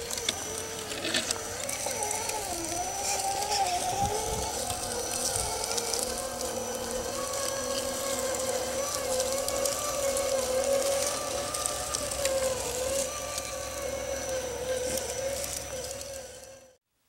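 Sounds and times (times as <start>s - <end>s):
electric motor and gearbox whining: 0.0s - 16.8s.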